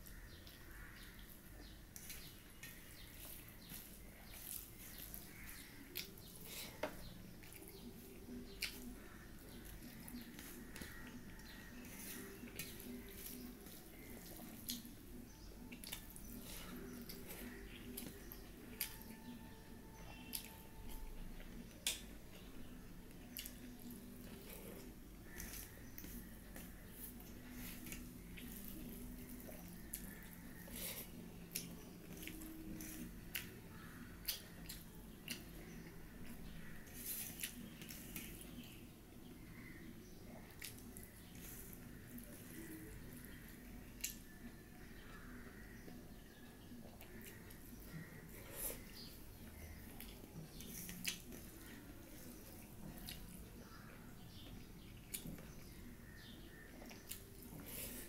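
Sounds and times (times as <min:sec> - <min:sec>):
chewing: 0:00.0 - 0:38.8, 0:39.5 - 0:58.0
faint low hum: 0:00.0 - 0:58.0
fingers squishing wet food: 0:00.0 - 0:58.0.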